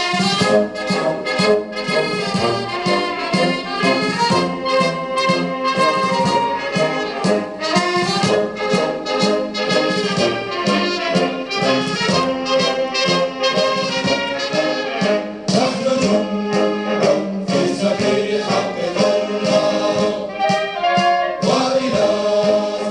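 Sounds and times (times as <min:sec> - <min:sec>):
brass and orchestral music: 0:00.0 - 0:22.9.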